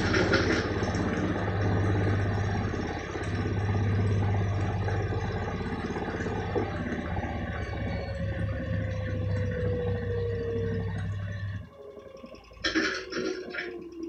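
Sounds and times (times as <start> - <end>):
washing machine drum spinning: 0.0 - 14.0.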